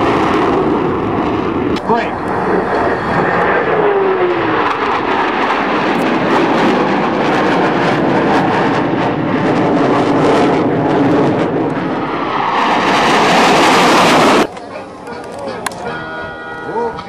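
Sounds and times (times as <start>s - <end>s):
jet engines flying past: 0.0s - 16.7s.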